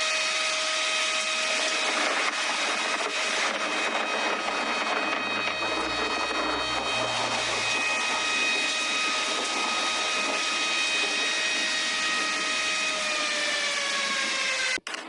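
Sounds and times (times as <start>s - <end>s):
droning alarm tone: 0.0s - 15.0s.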